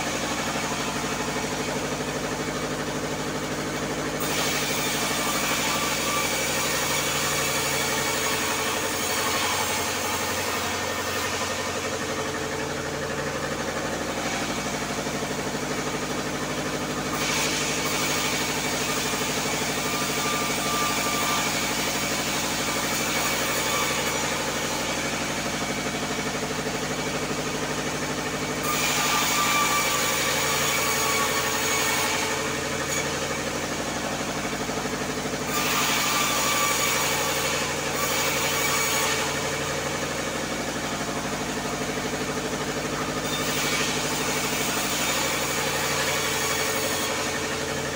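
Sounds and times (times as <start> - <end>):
saw blade cutting timber: 0.0 - 47.9
sawmill engine running: 0.0 - 47.9.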